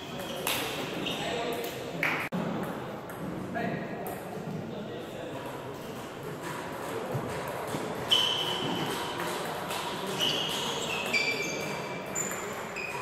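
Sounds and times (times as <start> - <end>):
sports hall hubbub: 0.0 - 13.0.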